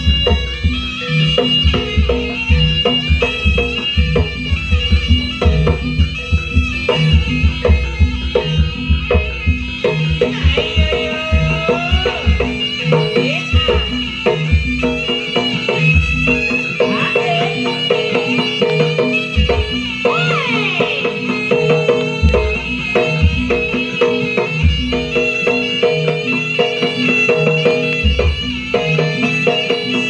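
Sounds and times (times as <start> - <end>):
shrill reed pipe melody: 0.0 - 30.0
steady drum beat: 0.0 - 30.0.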